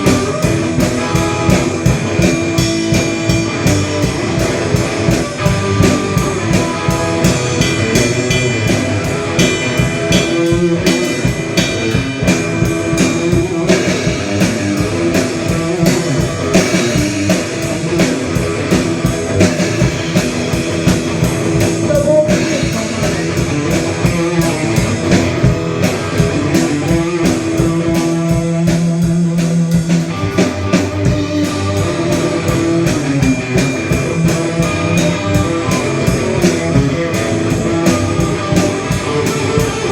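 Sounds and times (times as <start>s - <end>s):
drum kit steady beat: 0.0s - 39.9s
electric guitar: 0.0s - 39.9s.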